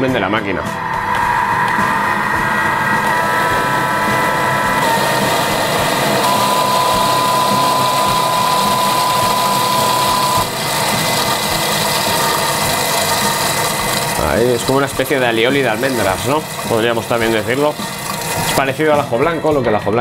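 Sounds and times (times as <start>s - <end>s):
food processor motor whining: 1.1s - 18.8s.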